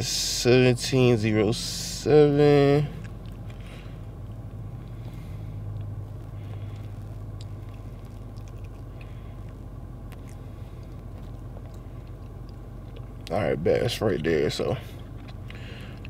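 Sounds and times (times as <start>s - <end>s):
car idling: 0.0s - 16.0s.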